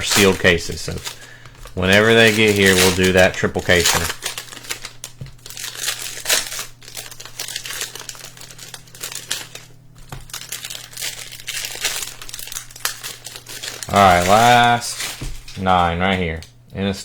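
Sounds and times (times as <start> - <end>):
card pack wrappers crinkling and tearing: 0.0 - 16.5
steady low hum: 0.0 - 17.0.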